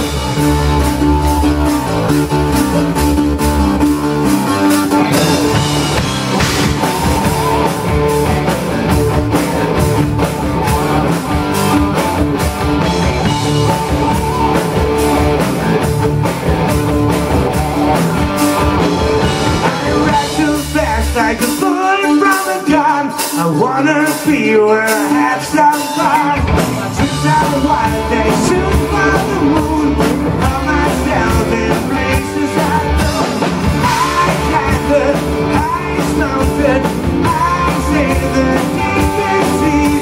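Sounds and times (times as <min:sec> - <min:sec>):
bass guitar: 0:00.0 - 0:40.0
distorted electric guitars: 0:00.0 - 0:40.0
drum kit beat: 0:00.0 - 0:40.0.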